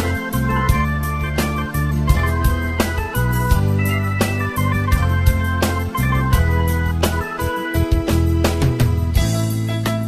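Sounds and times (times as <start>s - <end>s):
electronic keyboard music: 0.0s - 10.0s
steady drum beat: 0.0s - 10.0s.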